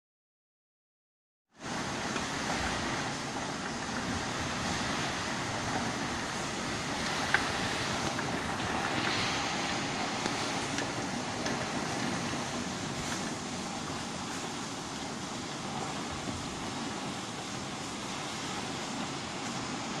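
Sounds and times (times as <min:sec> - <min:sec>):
gusting wind: 0:01.5 - 0:20.0
heavy rain falling: 0:01.6 - 0:20.0.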